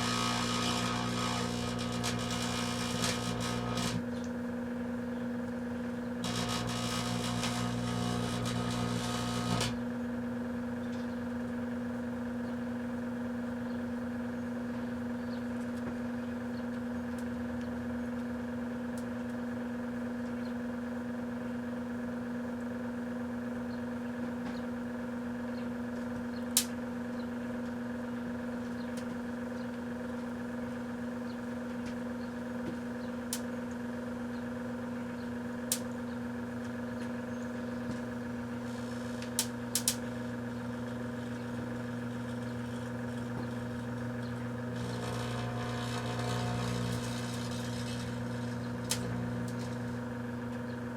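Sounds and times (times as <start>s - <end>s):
microwave oven humming: 0.0s - 50.9s.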